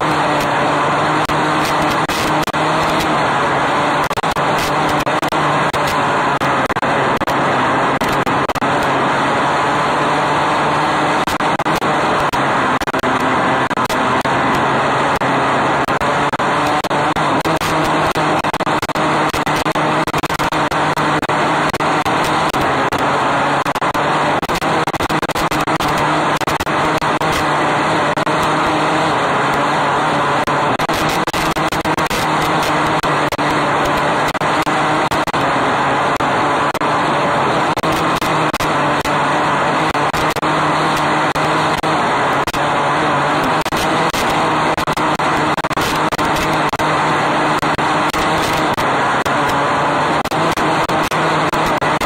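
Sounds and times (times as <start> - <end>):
heavy noise: 0.0 - 52.0
racing car engine: 0.0 - 52.0.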